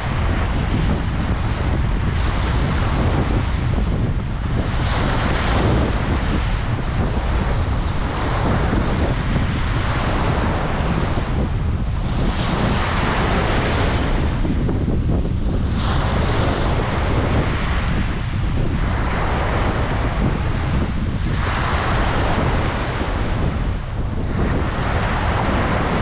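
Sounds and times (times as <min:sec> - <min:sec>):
ocean waves washing onto beach: 0:00.0 - 0:26.0
wind buffeting microphone: 0:00.0 - 0:26.0.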